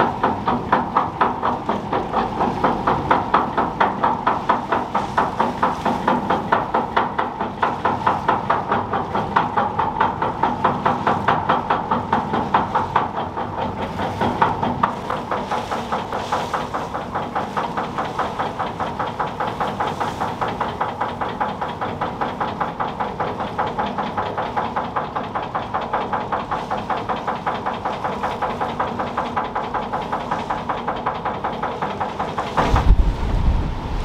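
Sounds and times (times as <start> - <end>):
ferry machinery noise: 0.0 - 34.0
rhythmic clattering knocks: 0.0 - 34.0.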